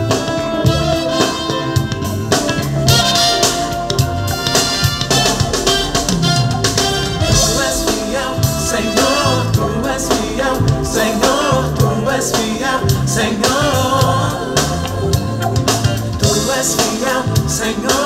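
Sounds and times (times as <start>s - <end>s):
gospel song through speakers: 0.0s - 18.0s.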